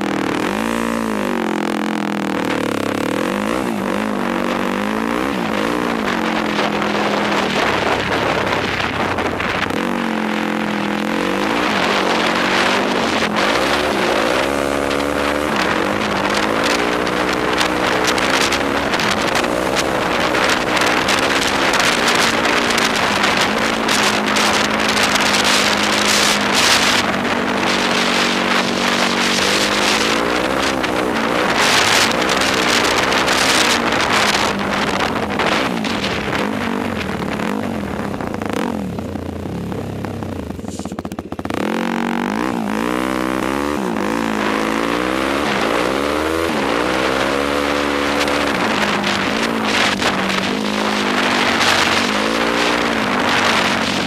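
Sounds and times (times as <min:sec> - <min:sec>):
quad engine revving: 0:00.0 - 0:54.0
wind on microphone: 0:02.4 - 0:54.0.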